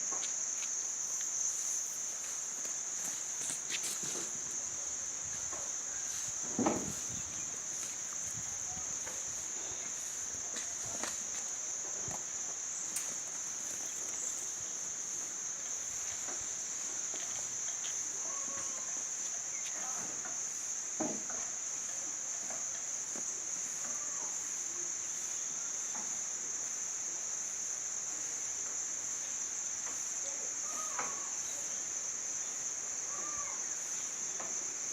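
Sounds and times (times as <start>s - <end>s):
insects chirring: 0.0s - 34.9s.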